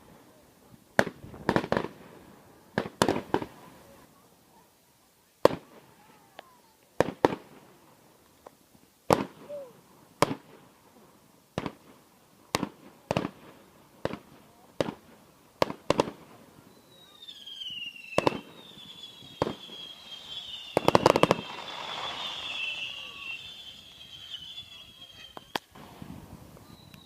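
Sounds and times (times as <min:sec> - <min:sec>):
fireworks exploding: 0:01.0 - 0:04.0, 0:05.4 - 0:08.1, 0:09.1 - 0:27.0.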